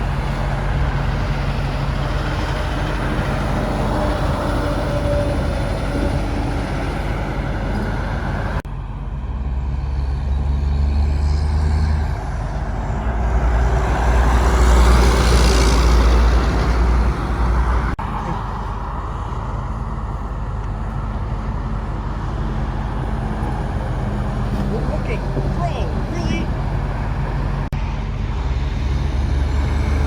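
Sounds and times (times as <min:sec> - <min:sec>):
trucks passing on highway: 0:00.0 - 0:30.0.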